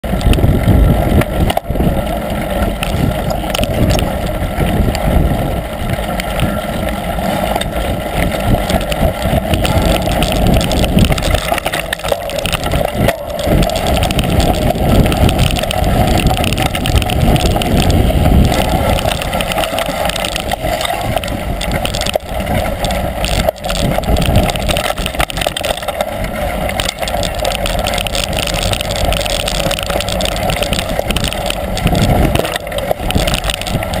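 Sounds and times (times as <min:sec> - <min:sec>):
bike knocks and rattles: 0:00.0 - 0:34.0
wind rush on microphone: 0:00.0 - 0:34.0.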